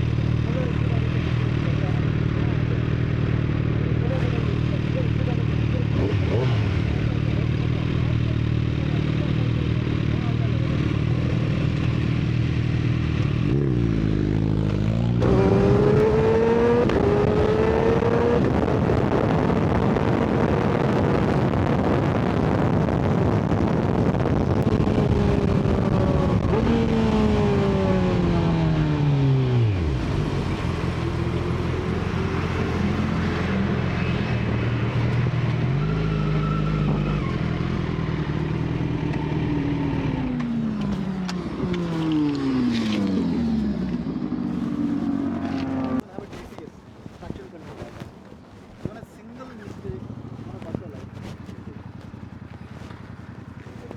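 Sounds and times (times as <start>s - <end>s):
motorcycle engine at speed: 0.0s - 46.7s, 47.3s - 53.9s.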